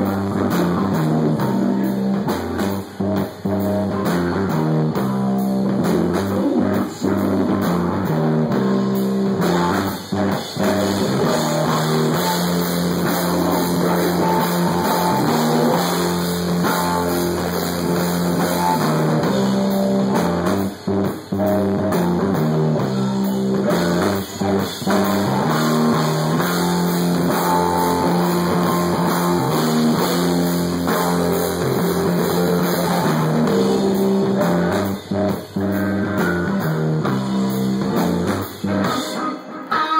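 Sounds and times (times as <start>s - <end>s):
live metal band playing: 0.0s - 39.9s.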